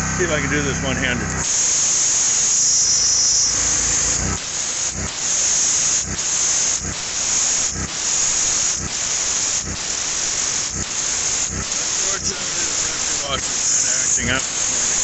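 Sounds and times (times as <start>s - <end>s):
pressure washer spray hissing: 0.0s - 15.0s.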